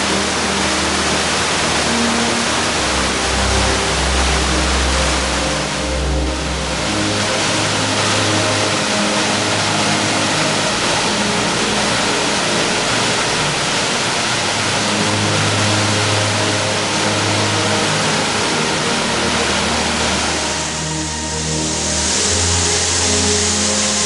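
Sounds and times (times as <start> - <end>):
slow background music: 0.0 - 24.0
waterfall rushing into a pool: 0.0 - 24.0.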